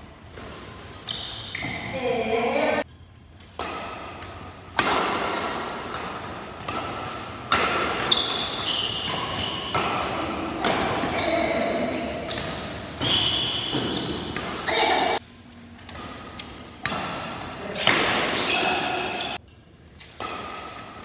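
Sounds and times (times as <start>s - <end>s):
badminton rackets hitting shuttlecock: 0.3s - 15.2s, 15.9s - 19.4s, 20.0s - 21.0s.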